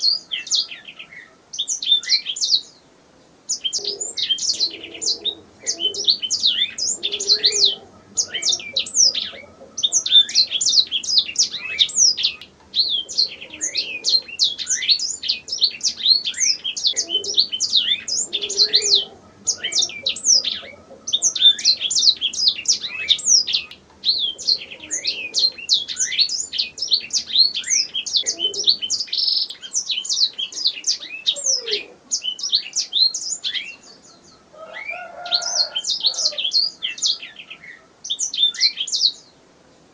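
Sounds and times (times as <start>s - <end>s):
canary singing: 0.0s - 2.8s, 3.5s - 39.3s.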